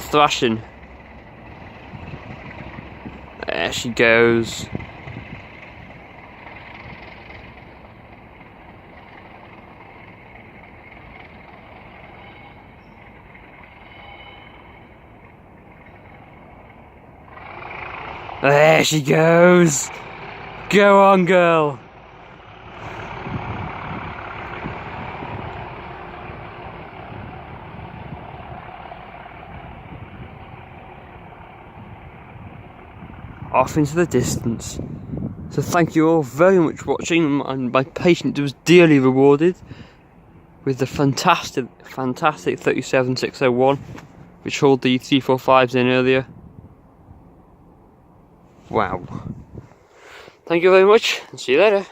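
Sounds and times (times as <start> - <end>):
diesel locomotive engine: 0.0 - 51.9.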